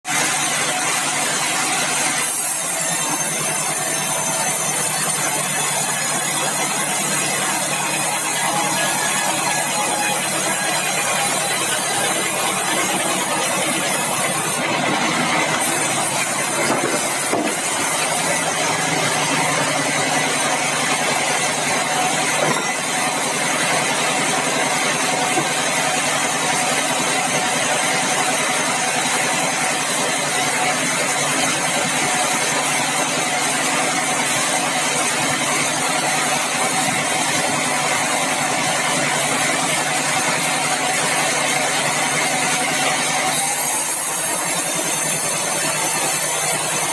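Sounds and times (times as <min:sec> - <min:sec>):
sawmill machinery running: 0:00.1 - 0:46.9.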